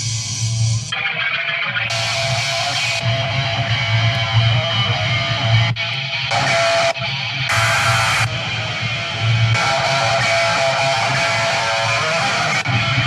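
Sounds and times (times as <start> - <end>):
electric guitar music: 0.0 - 13.0
steady low beat: 1.9 - 13.0.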